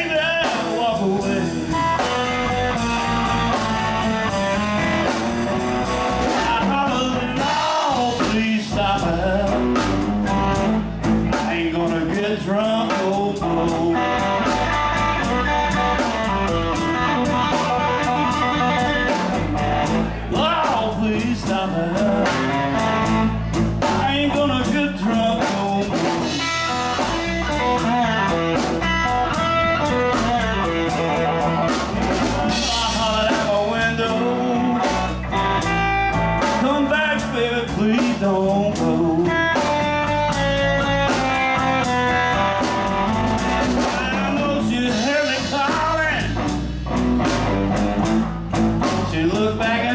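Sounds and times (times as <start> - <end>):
drum kit beat: 0.0 - 49.9
electric guitars: 0.0 - 49.9.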